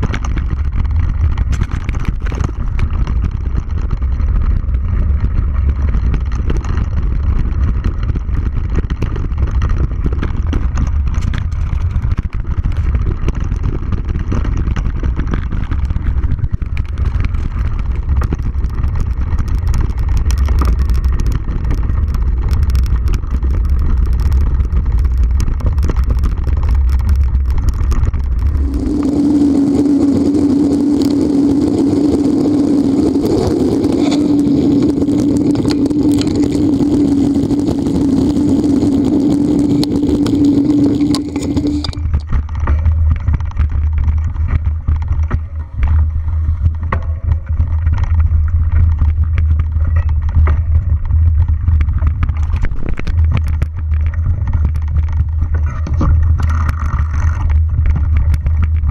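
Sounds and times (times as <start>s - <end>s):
bike rattling over ground: 0.0s - 58.9s
steady buzzing hum: 0.0s - 58.9s
wind rumble on microphone: 0.0s - 58.9s.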